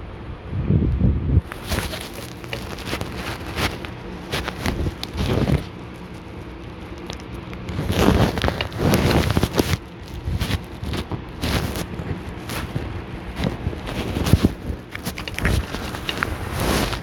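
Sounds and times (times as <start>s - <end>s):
rustling and crackling handling noise: 1.4s - 17.0s.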